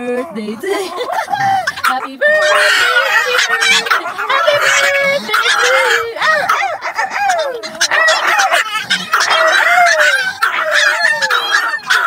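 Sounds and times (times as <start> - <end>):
dogs howling: 0.0 - 12.0.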